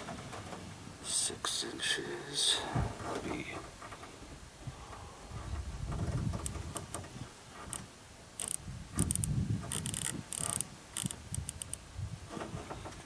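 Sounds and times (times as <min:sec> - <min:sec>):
low handling bumps: 0:00.0 - 0:01.0, 0:02.6 - 0:13.0.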